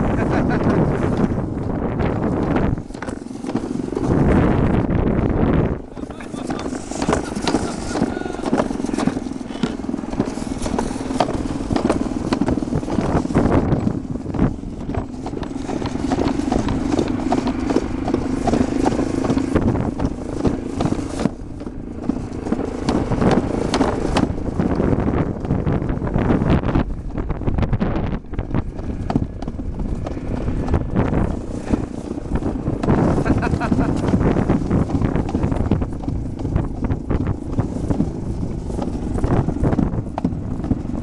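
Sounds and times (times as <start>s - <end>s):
sled rumbling down a track: 0.0s - 41.0s.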